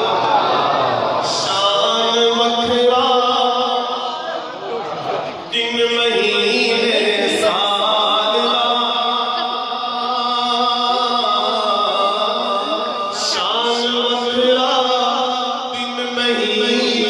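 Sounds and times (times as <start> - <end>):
man chanting devotional song: 1.2 - 4.2, 5.4 - 17.0.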